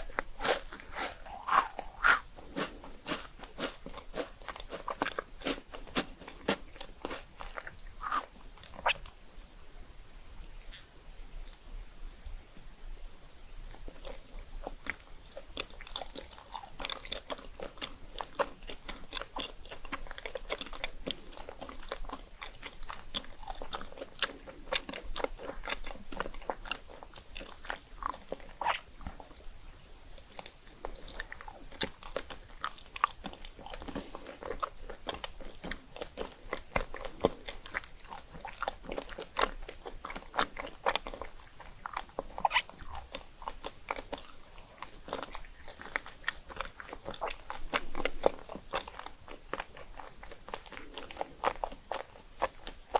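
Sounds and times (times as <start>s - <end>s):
crunchy chewing: 0.0s - 9.2s, 13.7s - 52.9s.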